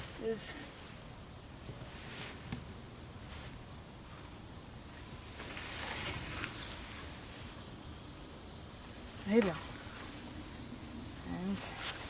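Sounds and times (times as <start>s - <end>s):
faint outdoor background: 0.0s - 12.0s
insect chirping: 0.0s - 12.0s.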